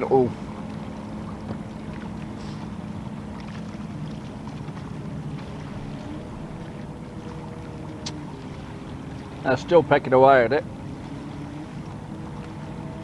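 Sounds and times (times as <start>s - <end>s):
distant boat engine droning: 0.0s - 13.0s.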